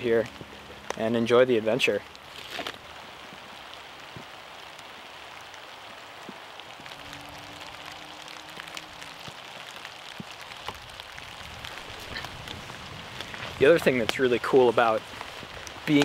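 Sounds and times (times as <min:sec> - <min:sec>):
light rain on leaves: 0:00.0 - 0:16.0
raindrop ticks: 0:00.0 - 0:16.0.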